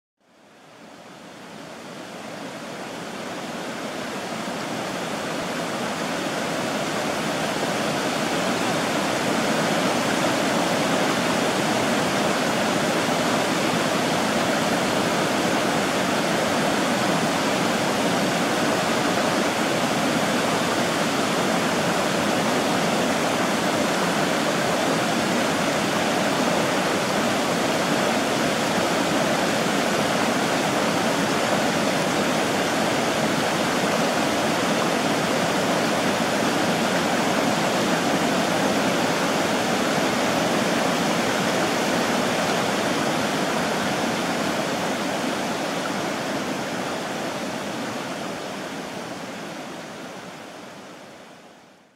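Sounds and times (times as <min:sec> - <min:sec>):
water rushing over a weir: 0:00.5 - 0:51.4.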